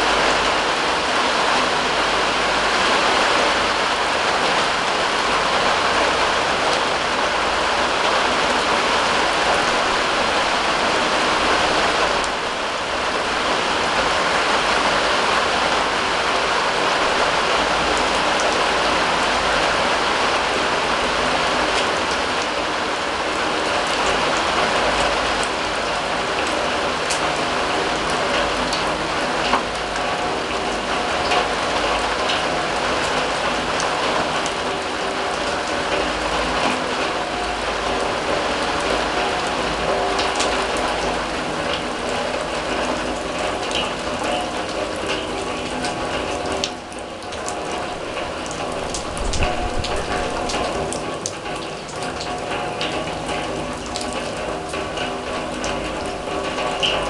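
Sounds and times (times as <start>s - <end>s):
rain on a steel drum: 0.0s - 57.0s.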